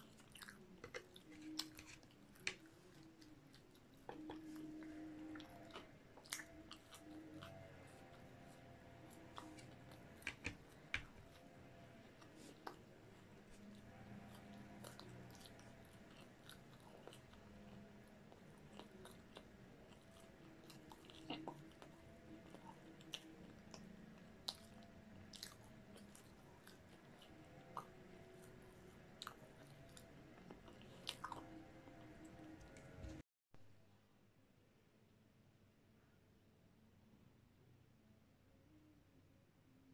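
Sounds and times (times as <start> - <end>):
chewing food: 0.0 - 33.2.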